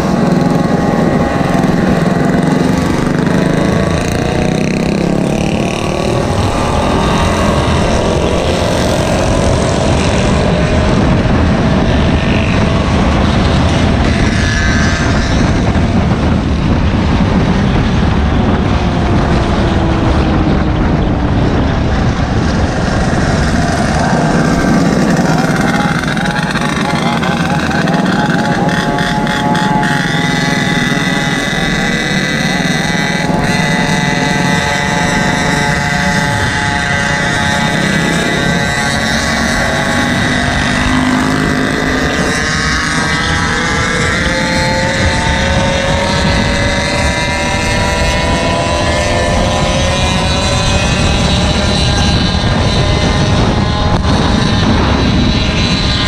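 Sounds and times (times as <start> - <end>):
small bike engines running: 0.0 - 56.0.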